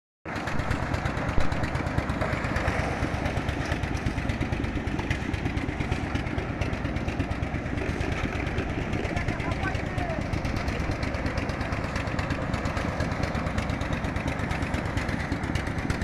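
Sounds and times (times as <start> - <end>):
engine running: 0.3 - 16.0.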